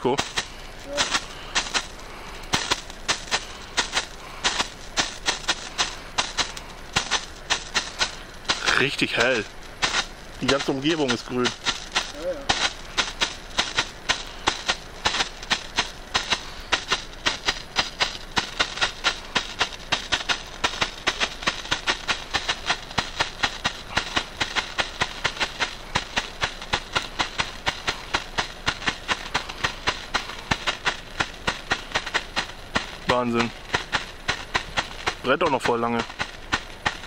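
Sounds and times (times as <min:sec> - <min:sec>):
faint hiss: 0:00.0 - 0:37.0
strobe flare crackling and popping: 0:00.0 - 0:37.0.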